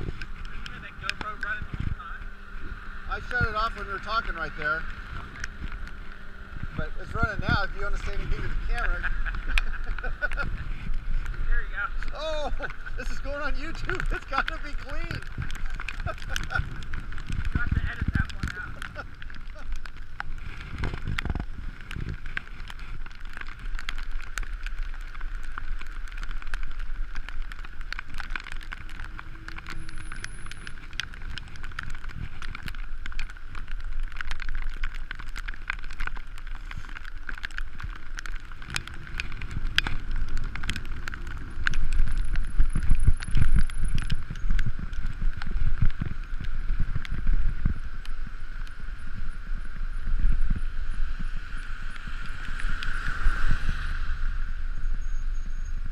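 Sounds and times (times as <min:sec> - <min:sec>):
bicycle rattling and clicking: 0:00.0 - 0:55.9
wind rumble on microphone: 0:00.0 - 0:55.9.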